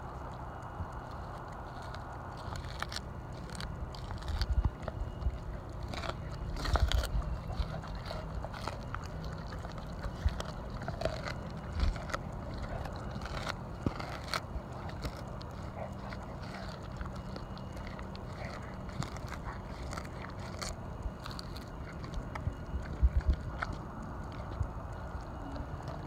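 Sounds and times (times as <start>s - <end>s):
dog chewing raw fish: 0.0s - 26.0s
low machine drone: 0.0s - 26.0s.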